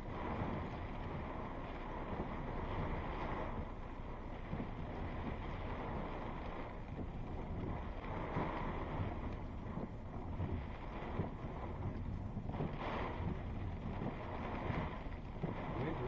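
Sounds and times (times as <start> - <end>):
strong wind buffeting a car: 0.0 - 16.0.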